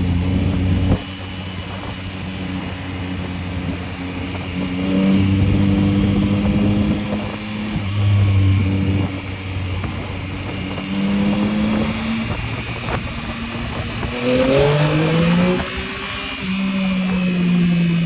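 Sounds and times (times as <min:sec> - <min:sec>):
motorcycle engine running: 0:00.0 - 0:18.0
wind noise: 0:00.0 - 0:18.0.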